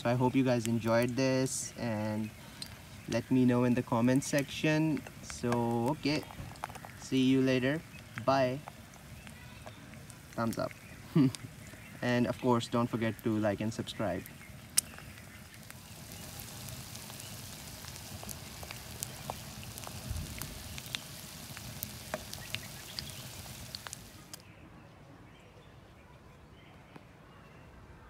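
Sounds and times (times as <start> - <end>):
egg sizzling in oil: 0.0 - 24.4
oil popping: 0.0 - 24.4
faint outdoor background: 0.0 - 28.0.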